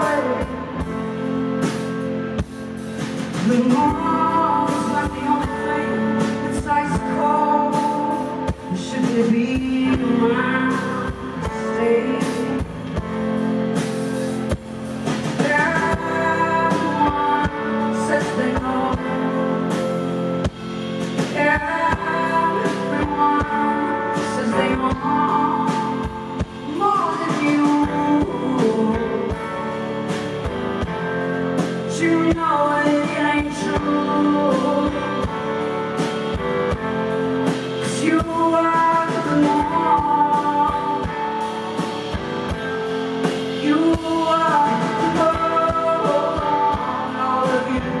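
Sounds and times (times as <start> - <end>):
drums: 0.0 - 48.0
guitar: 0.0 - 48.0
woman singing into a microphone: 0.0 - 48.0.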